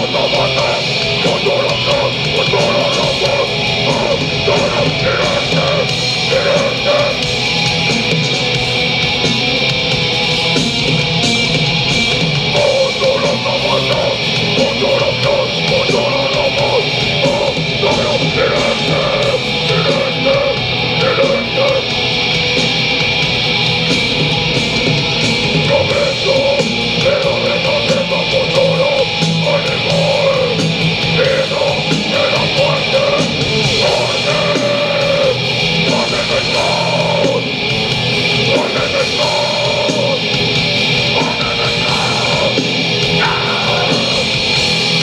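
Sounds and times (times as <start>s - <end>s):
heavy metal band playing live: 0.0s - 45.0s.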